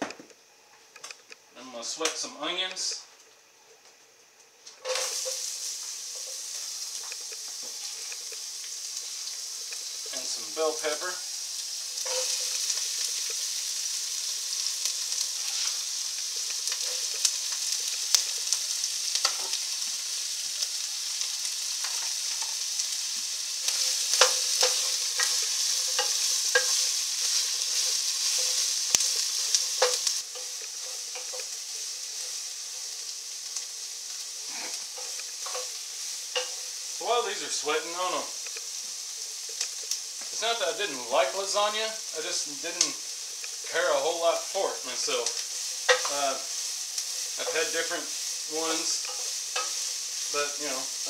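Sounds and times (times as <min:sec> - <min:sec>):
vegetables sizzling in oil: 0:00.4 - 0:51.0.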